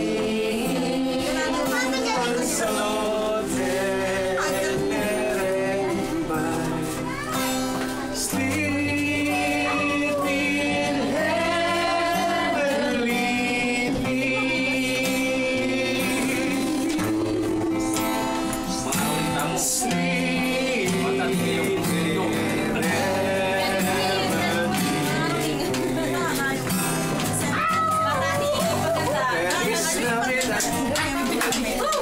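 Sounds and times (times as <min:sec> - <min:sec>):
man singing: 0:00.0 - 0:07.3, 0:08.1 - 0:27.6, 0:28.7 - 0:31.3
acoustic guitar strumming: 0:00.0 - 0:32.0.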